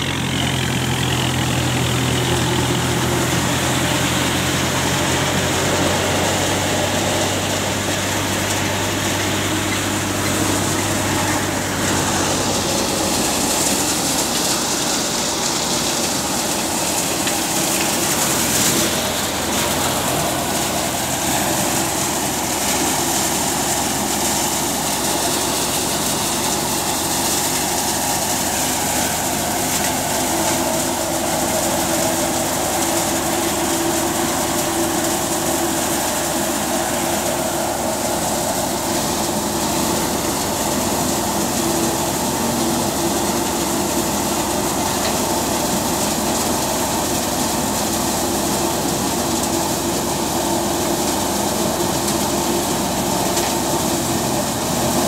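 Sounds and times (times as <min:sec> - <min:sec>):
threshing machine drone: 0:00.0 - 0:55.0.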